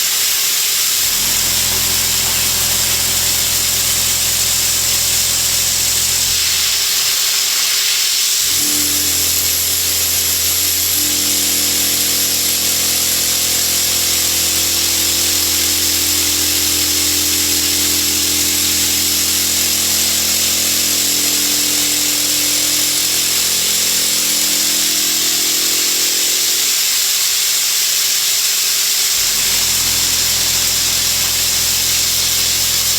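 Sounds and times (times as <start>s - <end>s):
milling cutter hiss: 0.8s - 27.2s, 29.1s - 32.9s
low machine hum: 1.0s - 7.3s, 8.4s - 26.7s, 29.2s - 32.9s.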